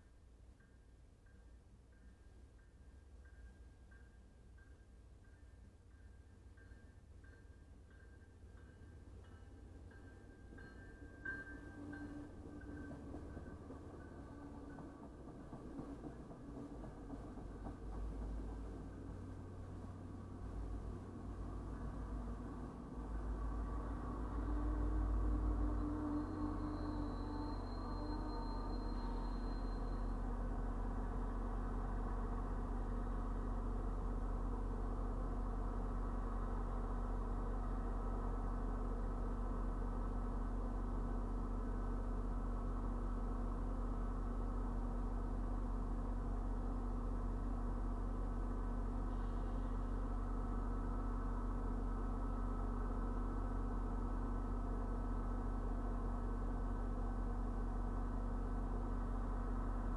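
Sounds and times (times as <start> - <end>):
low engine hum: 7.7 - 59.9.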